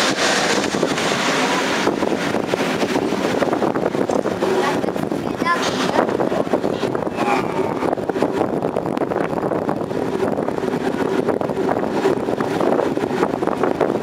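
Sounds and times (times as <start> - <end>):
train rolling on track: 0.0 - 14.0
wind buffeting microphone: 0.0 - 14.0.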